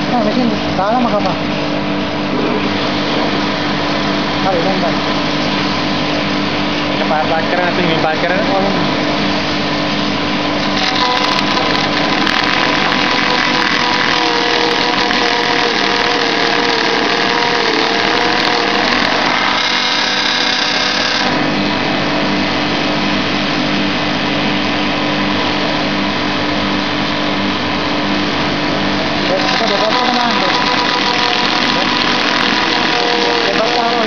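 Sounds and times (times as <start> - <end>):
machine whirring: 0.0 - 34.0
wavering whine: 0.0 - 34.0.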